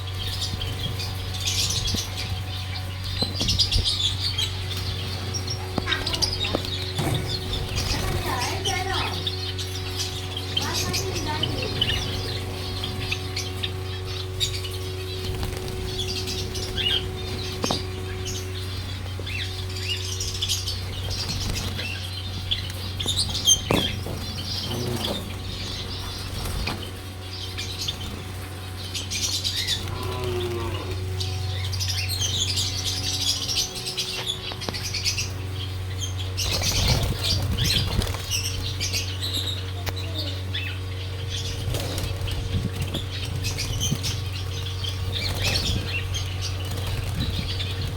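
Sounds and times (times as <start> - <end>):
cage birds chirping: 0.0 - 47.9
steady low hum: 0.0 - 47.9.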